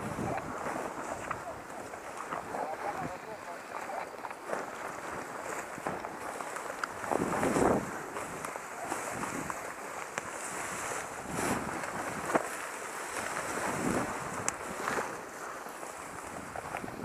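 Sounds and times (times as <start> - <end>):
rustling noise: 0.0 - 17.0
wind buffeting microphone: 0.0 - 17.0.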